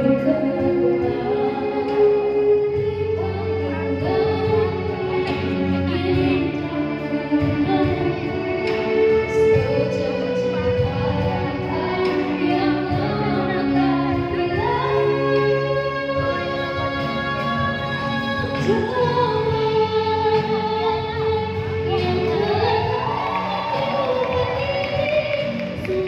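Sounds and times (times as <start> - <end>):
live band playing: 0.0 - 26.0
woman singing: 0.0 - 26.0.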